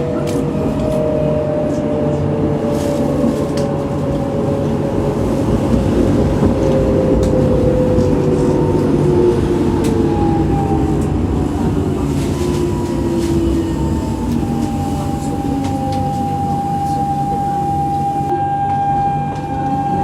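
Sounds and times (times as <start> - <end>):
tram wheels rumbling: 0.0 - 20.0.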